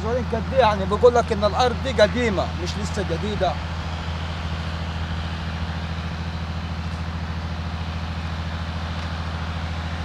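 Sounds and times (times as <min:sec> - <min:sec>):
vehicle engine running steadily: 0:00.0 - 0:10.0.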